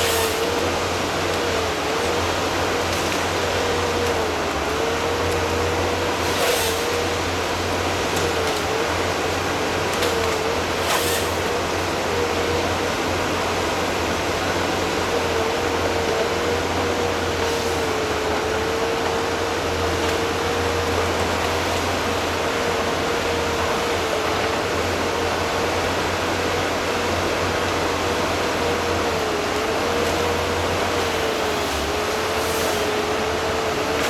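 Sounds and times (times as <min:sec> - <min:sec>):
harvester engine and hydraulics whine: 0:00.0 - 0:34.0.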